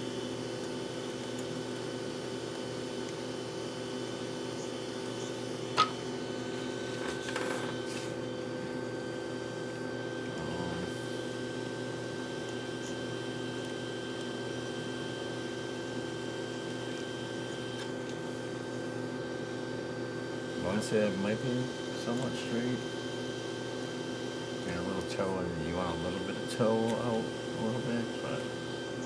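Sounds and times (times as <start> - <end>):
electrical hum of machine: 0.0 - 29.0.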